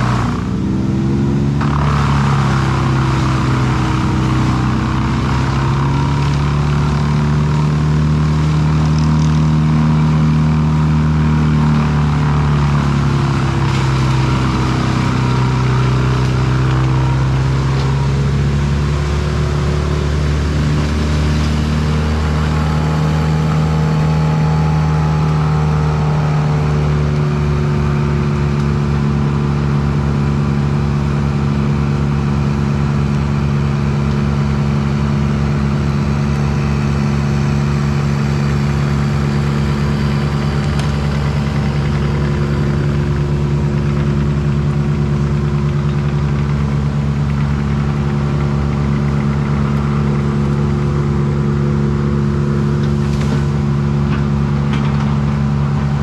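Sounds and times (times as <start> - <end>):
wood chipper engine drone: 0.0 - 56.0.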